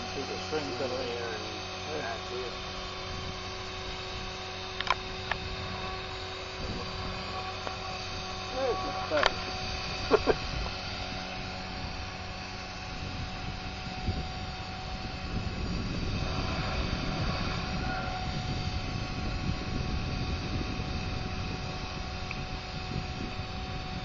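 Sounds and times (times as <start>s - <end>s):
electric helicopter motor whine: 0.0s - 24.0s.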